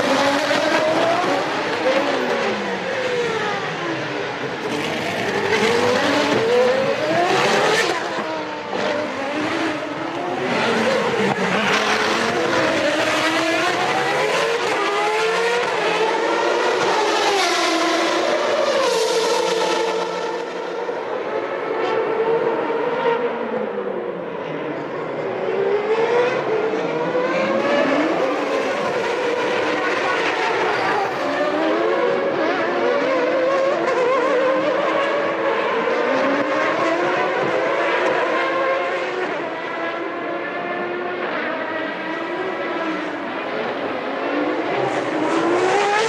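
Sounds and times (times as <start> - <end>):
racing car engines passing: 0.0 - 46.0.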